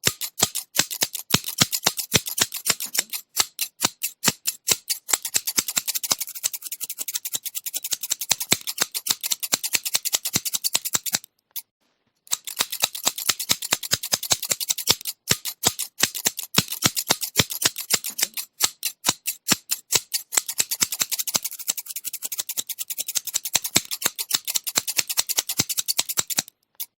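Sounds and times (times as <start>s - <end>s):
metal scissors snipping: 0.0s - 11.7s, 12.3s - 26.9s.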